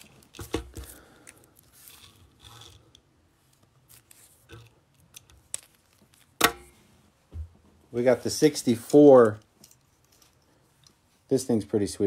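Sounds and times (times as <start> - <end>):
faint rustling and scraping: 0.0 - 12.0.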